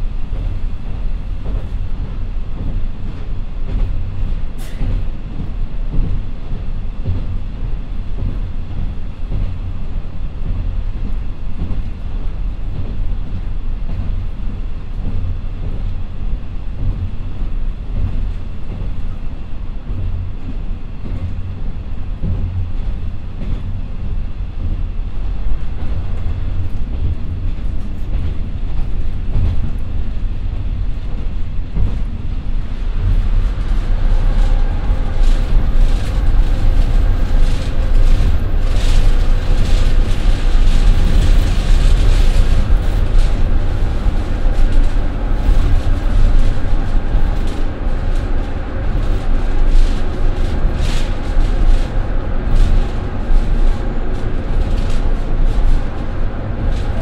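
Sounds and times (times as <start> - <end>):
train interior rumble: 0.0 - 57.0.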